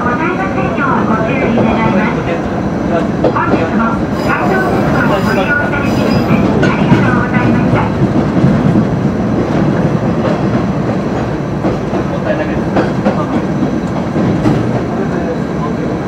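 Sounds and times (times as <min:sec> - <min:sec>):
railcar engine and wheels rumbling: 0:00.0 - 0:16.0.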